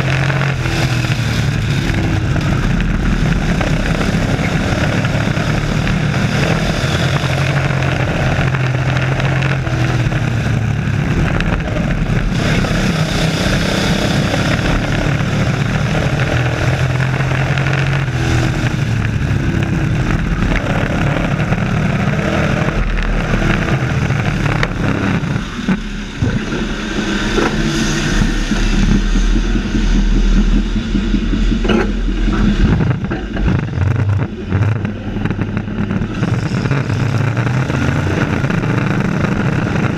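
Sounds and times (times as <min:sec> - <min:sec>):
racing truck engines: 0:00.0 - 0:39.9.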